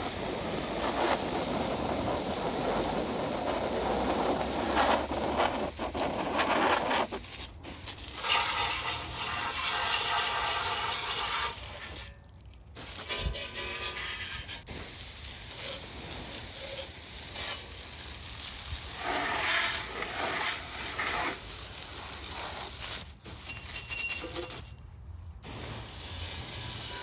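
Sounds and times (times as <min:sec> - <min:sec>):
water spraying with steady hiss: 0:00.0 - 0:24.8, 0:25.4 - 0:27.0.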